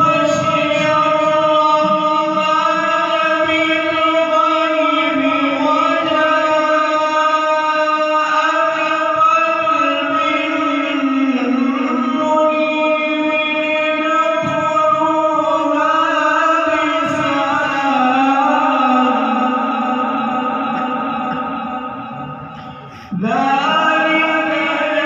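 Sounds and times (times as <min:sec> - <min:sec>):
man chanting melodically: 0:00.0 - 0:25.0.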